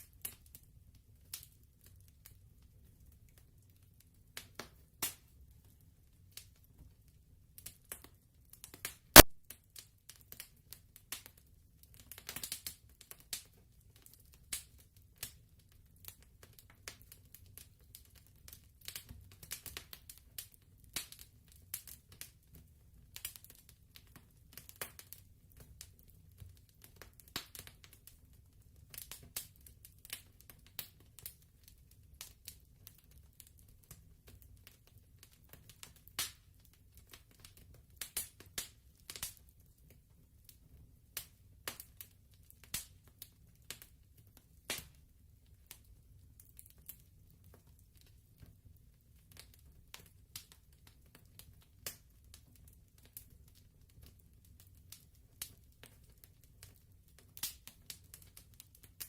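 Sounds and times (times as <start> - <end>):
fireplace crackling and popping: 0.0 - 59.0.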